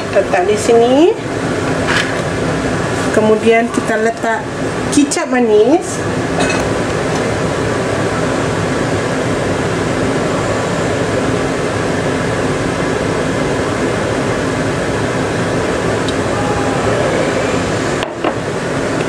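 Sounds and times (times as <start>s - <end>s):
machine whirring hum: 0.0s - 19.0s.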